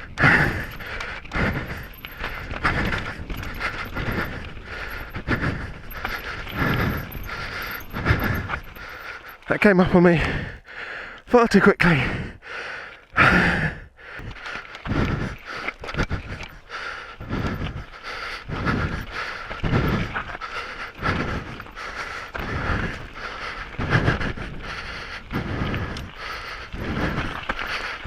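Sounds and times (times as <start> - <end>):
mountain bike clattering: 0.0 - 11.6, 14.2 - 28.0
heavy rhythmic breathing: 0.0 - 28.0.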